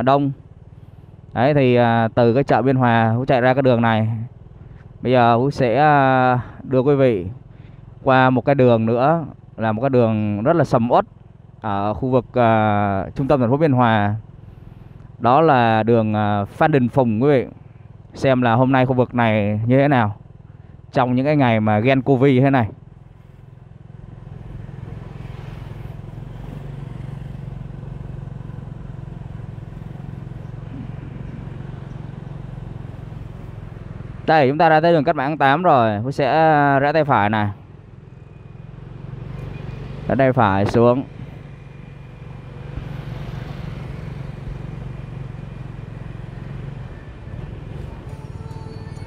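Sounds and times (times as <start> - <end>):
motorbike engine droning: 0.0 - 49.0
road noise: 0.0 - 49.0
traffic: 0.0 - 49.0.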